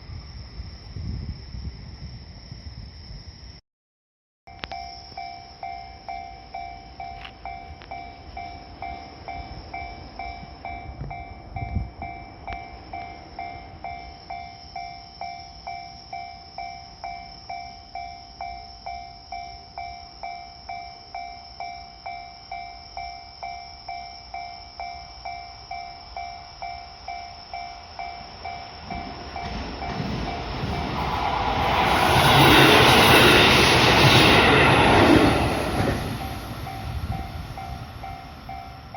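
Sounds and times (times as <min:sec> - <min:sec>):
level-crossing warning bell ringing: 0:04.5 - 0:38.9
train running over crossing: 0:04.5 - 0:38.9.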